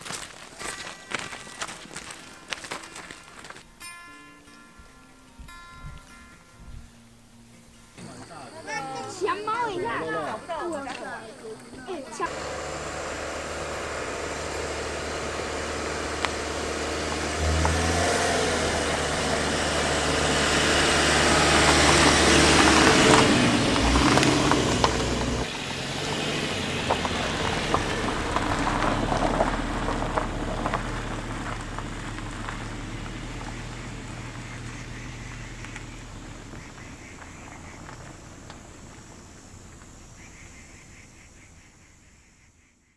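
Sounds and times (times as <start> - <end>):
car engine hum: 0.0 - 3.7, 6.9 - 42.4
road noise: 0.0 - 3.8, 5.4 - 42.8.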